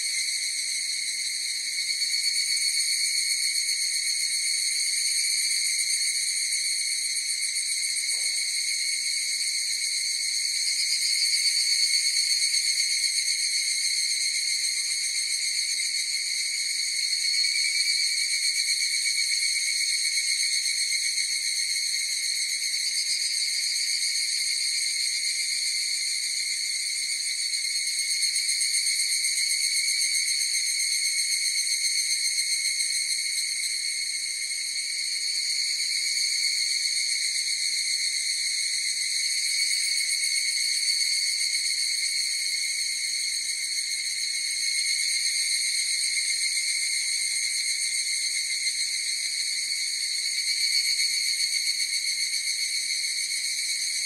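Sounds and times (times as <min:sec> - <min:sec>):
cicadas chorus ringing: 0:00.0 - 0:54.0.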